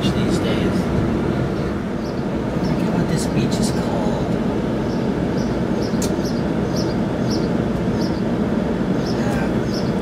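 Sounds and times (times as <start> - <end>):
vehicle and road rumble: 0.0 - 10.0.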